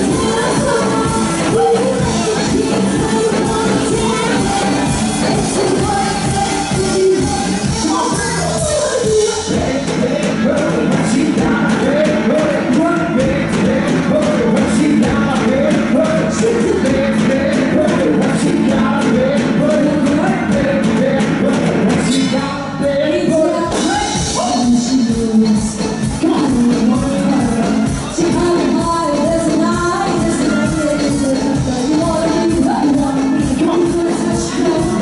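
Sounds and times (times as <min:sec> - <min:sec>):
live band playing: 0:00.0 - 0:35.0
person singing: 0:00.0 - 0:35.0.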